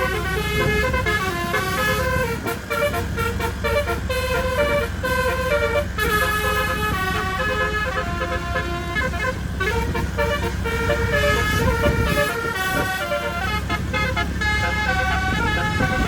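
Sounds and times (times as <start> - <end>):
diesel engine running: 0.0 - 16.0
musical bus horn melody: 0.0 - 16.0.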